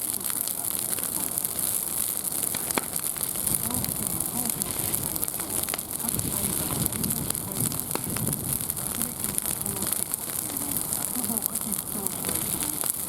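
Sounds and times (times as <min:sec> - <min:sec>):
muffled talking: 0:00.0 - 0:01.7, 0:03.3 - 0:13.0
campfire crackling: 0:00.0 - 0:13.0.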